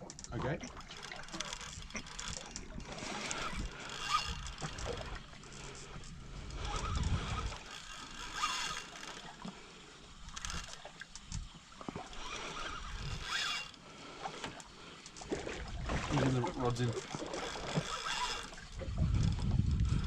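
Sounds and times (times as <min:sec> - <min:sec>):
water sloshing against boat hull: 0:00.0 - 0:20.0.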